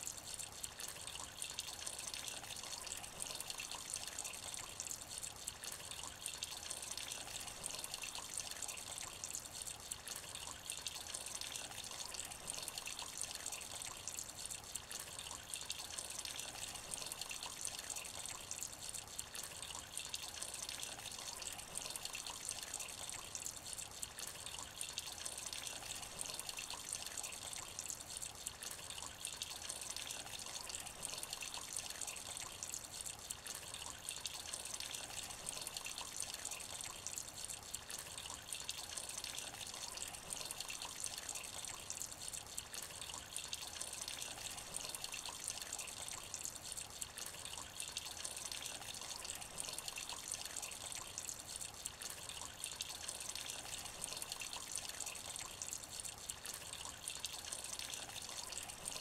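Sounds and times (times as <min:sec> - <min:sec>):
rain drops splashing in puddle: 0:00.0 - 0:59.0.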